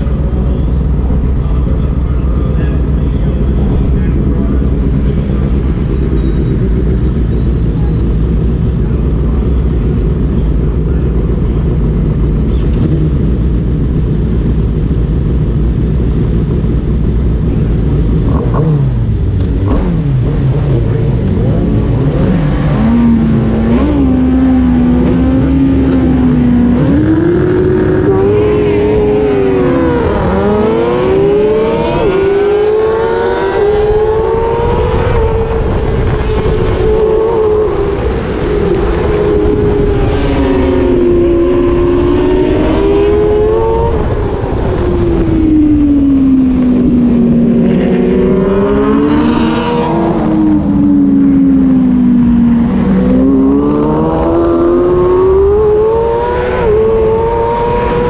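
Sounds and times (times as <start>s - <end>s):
motorcycle engine revving hard: 0.0s - 58.0s.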